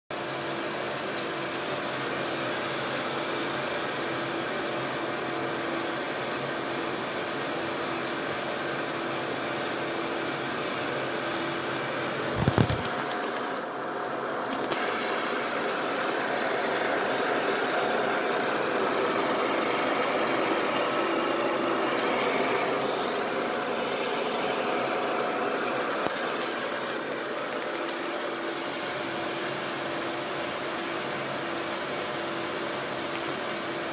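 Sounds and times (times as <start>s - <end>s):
exhaust fan humming: 0.2s - 33.9s.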